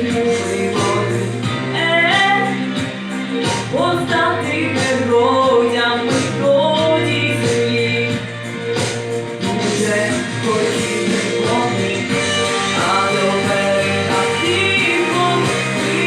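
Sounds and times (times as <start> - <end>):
girl singing pop melody: 0.0 - 16.0
instrumental backing track: 0.0 - 16.0.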